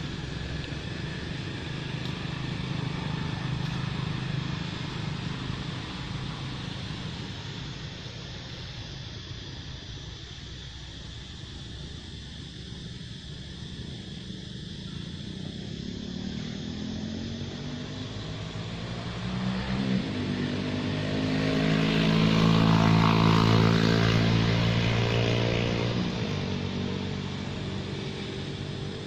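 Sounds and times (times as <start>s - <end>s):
vehicle engine passing by: 0.0s - 8.8s, 12.7s - 29.0s.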